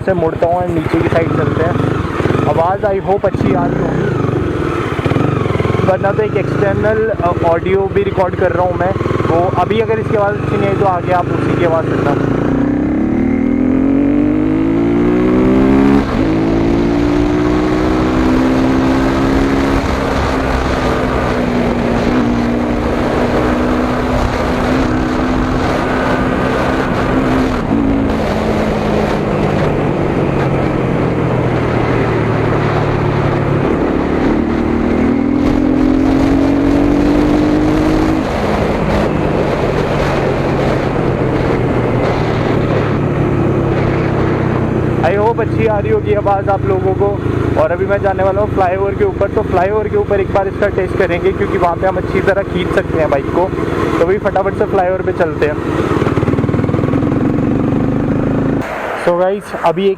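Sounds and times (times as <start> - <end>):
motorcycle engine revving: 0.0 - 59.6.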